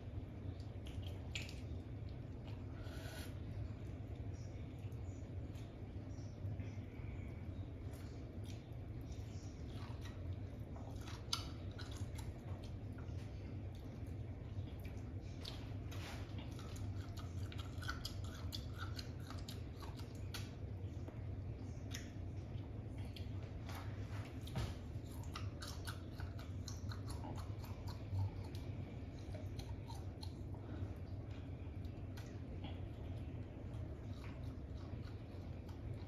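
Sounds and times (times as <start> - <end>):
wet crunching of lime being chewed: 0.4 - 2.8, 7.6 - 36.0.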